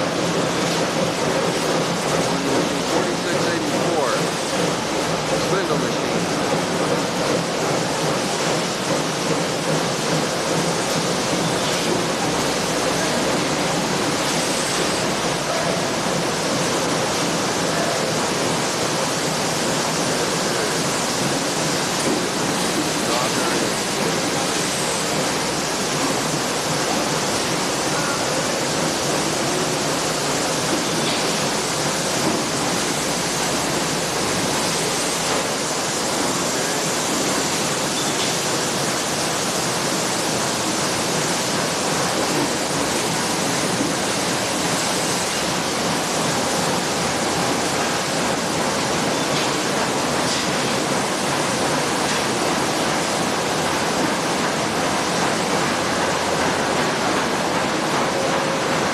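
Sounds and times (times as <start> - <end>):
metalworking factory din: 0.0 - 58.9.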